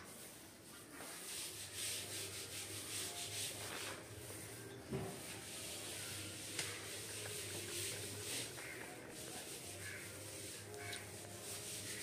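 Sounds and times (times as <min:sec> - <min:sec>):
paint roller swishing on wall: 0:00.0 - 0:12.0.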